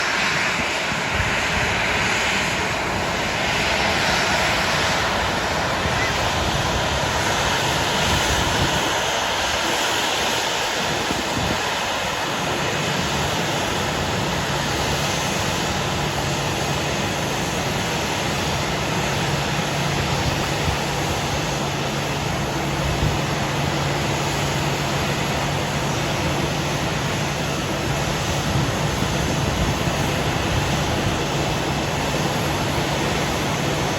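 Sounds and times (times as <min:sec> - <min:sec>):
jet engines idling: 0:00.0 - 0:33.9.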